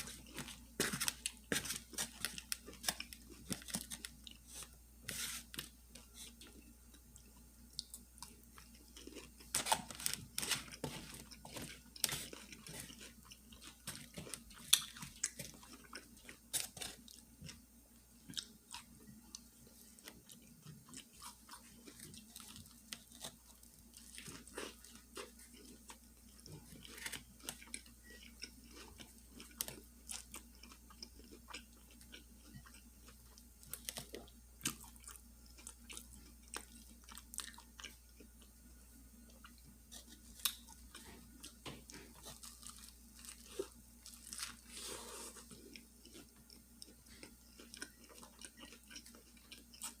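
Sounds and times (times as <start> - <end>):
close chewing and crunching: 0.0 - 4.8, 5.5 - 50.0.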